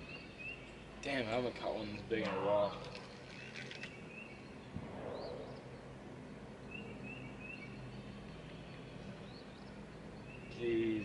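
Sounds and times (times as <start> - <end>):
bird chirping: 0.0 - 0.9, 2.8 - 11.0
low steady hum: 0.0 - 11.0.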